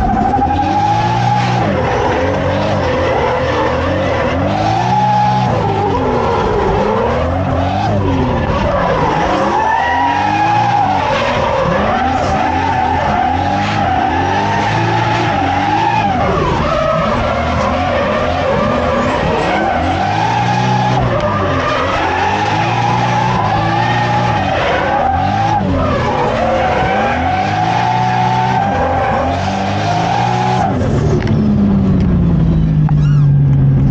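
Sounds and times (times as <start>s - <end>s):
tires sliding and squealing: 0.0s - 31.4s
car engine revving: 0.0s - 33.9s.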